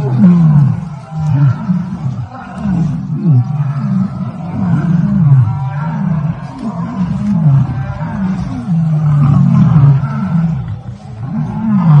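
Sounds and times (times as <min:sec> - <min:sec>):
lion roaring and growling: 0:00.0 - 0:12.0.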